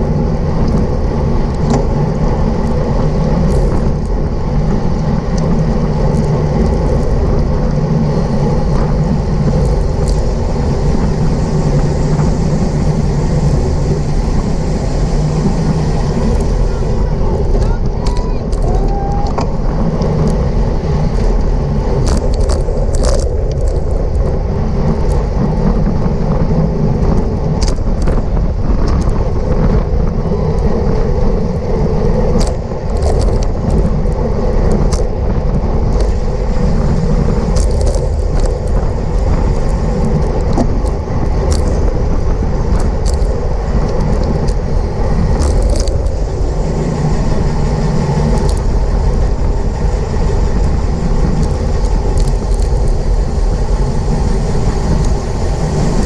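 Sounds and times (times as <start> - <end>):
bicycle clicks and rattles: 0.0 - 56.0
wind rush on microphone: 0.0 - 56.0.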